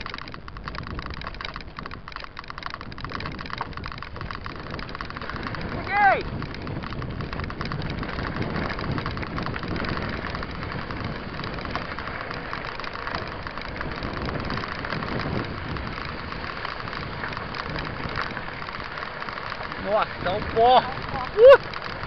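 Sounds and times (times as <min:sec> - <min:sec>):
bike tyres crunching on gravel: 0:00.0 - 0:22.0.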